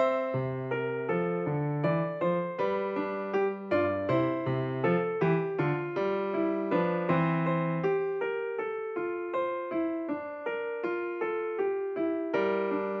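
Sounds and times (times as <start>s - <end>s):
piano-like keyboard melody: 0.0s - 13.0s.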